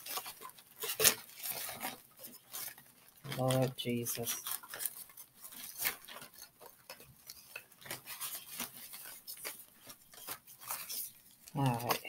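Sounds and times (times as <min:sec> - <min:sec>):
soft rubbing: 0:00.0 - 0:12.0.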